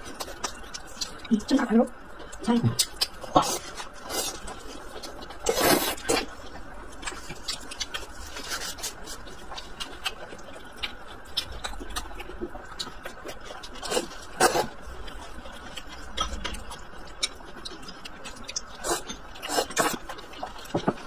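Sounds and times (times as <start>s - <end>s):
wet chewing with clicks: 0.0s - 21.0s.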